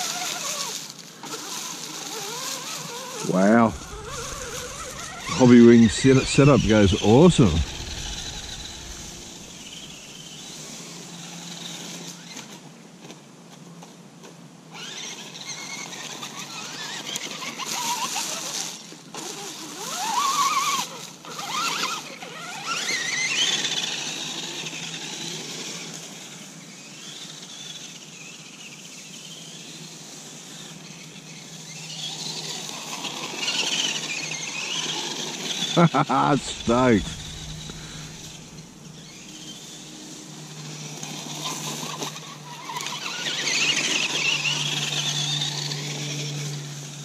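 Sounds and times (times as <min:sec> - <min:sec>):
rc car electric motor whining: 0:00.0 - 0:12.6, 0:14.7 - 0:47.0.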